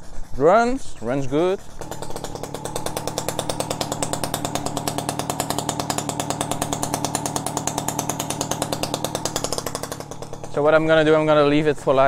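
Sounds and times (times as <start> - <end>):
two-stroke engine idling: 0.0 - 12.0.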